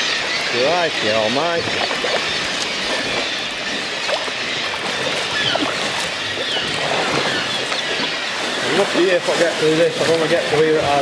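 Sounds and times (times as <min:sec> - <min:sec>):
seabird colony calling: 0:00.0 - 0:11.0
water lapping: 0:00.0 - 0:11.0.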